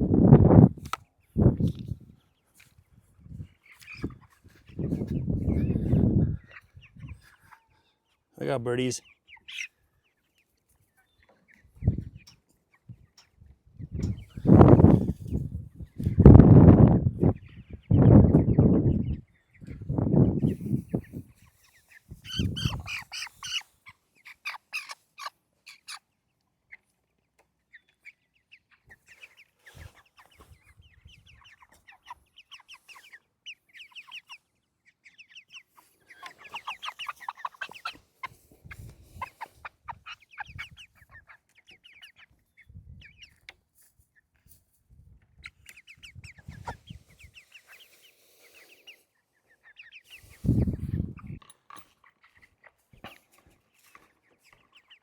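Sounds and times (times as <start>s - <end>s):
chickens clucking and peeping: 0.0s - 55.0s.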